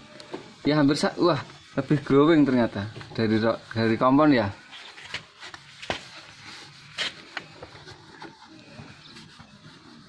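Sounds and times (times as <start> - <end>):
cloth rubbing on plastic: 0.5 - 10.0.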